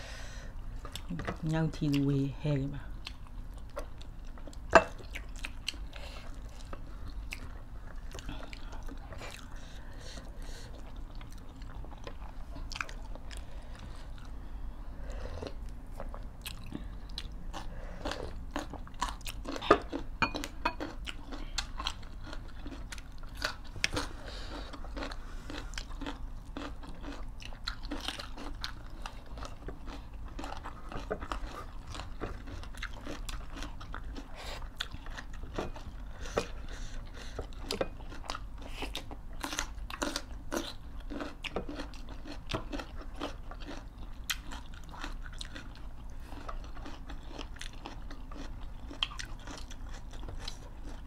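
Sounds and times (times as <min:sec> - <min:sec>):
people chewing crunchy food: 0:00.0 - 0:51.0.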